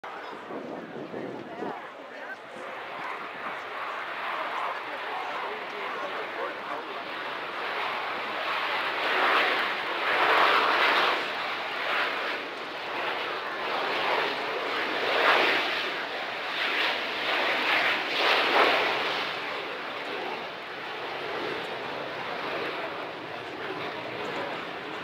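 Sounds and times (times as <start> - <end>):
jet flying low past: 0.1 - 25.0.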